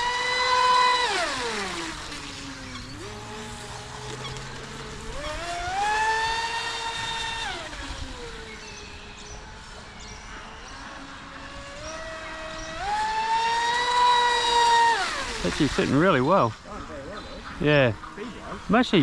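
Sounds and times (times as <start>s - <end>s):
rc boat electric motor whining: 0.0s - 19.0s.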